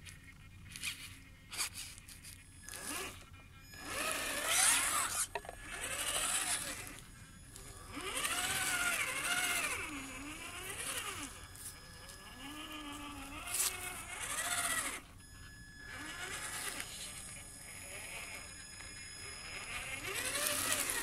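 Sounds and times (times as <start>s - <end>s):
rc car motor and gear whine: 0.0s - 21.0s.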